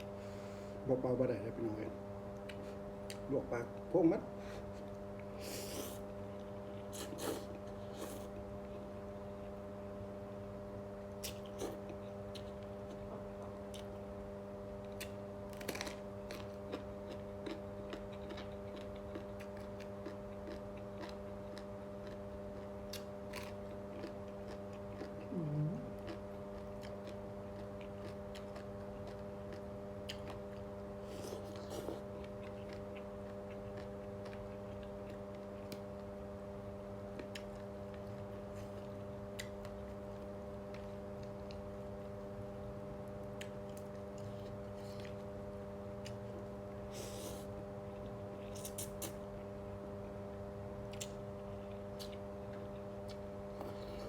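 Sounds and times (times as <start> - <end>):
steady hum: 0.0 - 54.0
person chewing noodles: 4.8 - 9.6, 11.1 - 36.3, 37.0 - 45.4, 46.0 - 49.5, 50.8 - 54.0.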